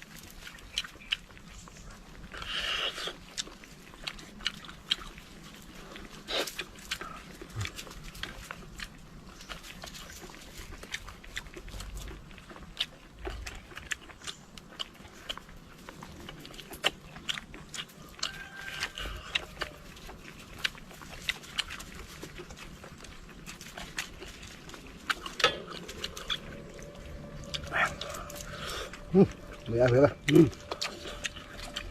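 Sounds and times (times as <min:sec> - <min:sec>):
wet chewing and lip-smacking: 0:00.0 - 0:31.9.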